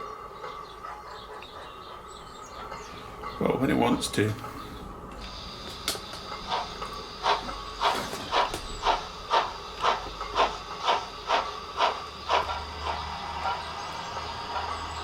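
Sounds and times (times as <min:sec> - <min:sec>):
model steam locomotive chuffs: 0:00.0 - 0:15.0.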